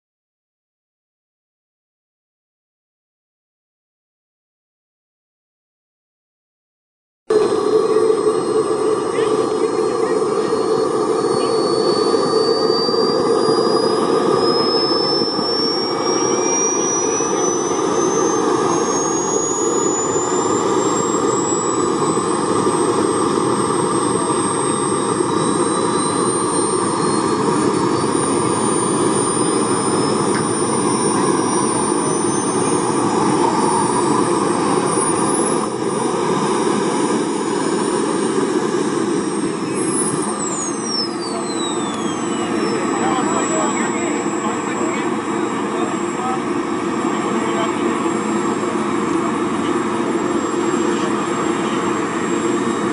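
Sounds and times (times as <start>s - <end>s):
model jet turbine whine: 7.3s - 52.9s.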